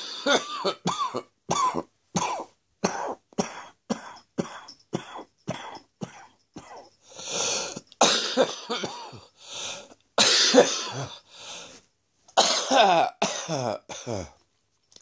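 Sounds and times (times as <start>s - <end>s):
person coughing: 0.0s - 9.4s, 10.2s - 11.3s, 12.4s - 14.4s.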